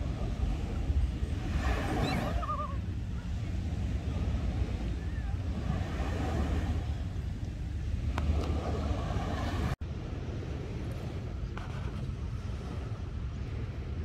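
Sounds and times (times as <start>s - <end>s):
small waves washing ashore: 0.0s - 14.0s
wind on microphone: 0.0s - 14.0s.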